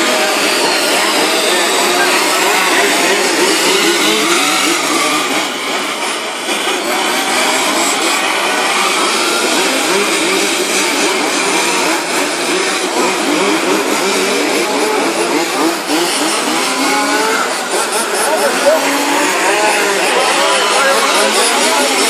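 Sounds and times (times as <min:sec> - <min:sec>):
model race car engines: 0:00.0 - 0:22.0.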